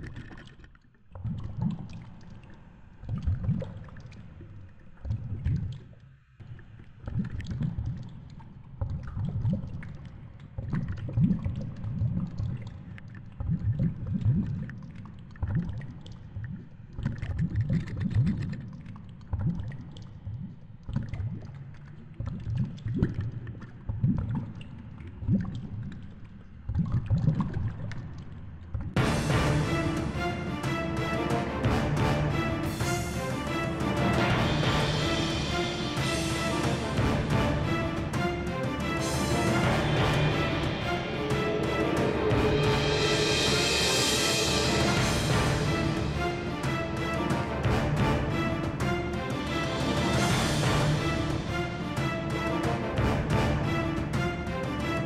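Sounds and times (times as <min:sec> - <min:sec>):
rushes of water: 0:00.0 - 0:55.0.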